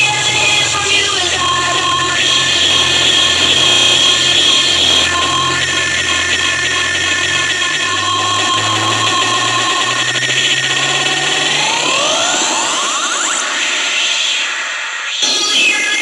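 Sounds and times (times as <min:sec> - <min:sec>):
distorted electronic music: 0:00.0 - 0:16.0.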